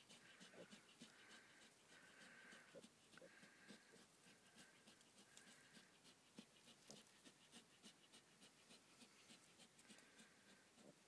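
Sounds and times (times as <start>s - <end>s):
pigs grunting softly: 0.0s - 11.0s.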